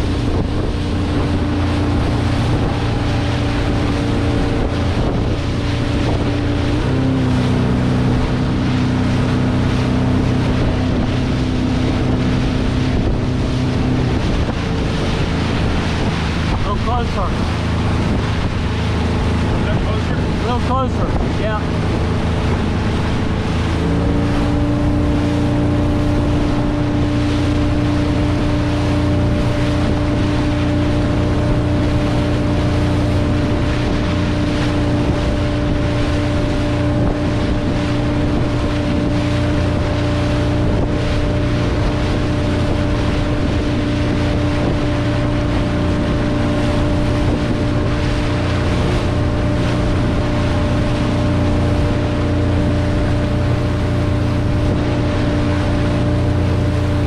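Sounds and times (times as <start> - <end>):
motorboat engine drone: 0.0 - 57.0
rushing water: 0.0 - 57.0.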